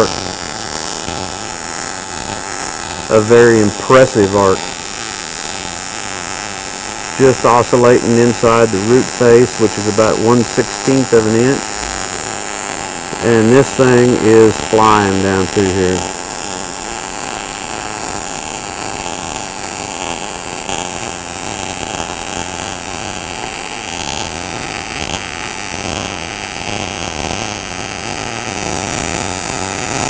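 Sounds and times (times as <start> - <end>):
welding arc crackling hiss: 0.0 - 30.0.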